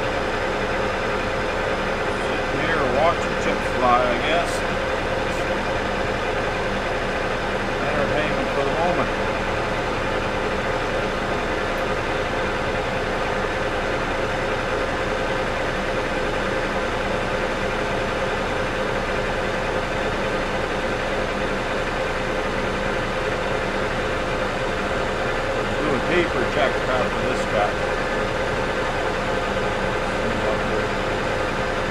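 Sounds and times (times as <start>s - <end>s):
lathe running with whine: 0.0s - 31.9s.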